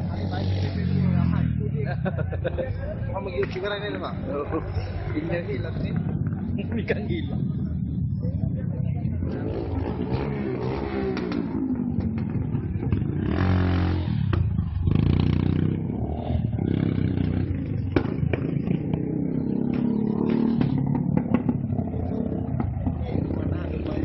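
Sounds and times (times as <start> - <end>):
motorcycle engine revving: 0.0 - 2.3, 3.3 - 24.0.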